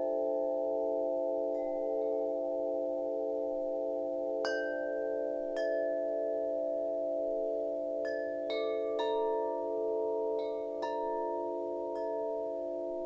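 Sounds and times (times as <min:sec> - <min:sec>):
wind chimes ringing: 0:00.0 - 0:03.4, 0:04.2 - 0:13.0.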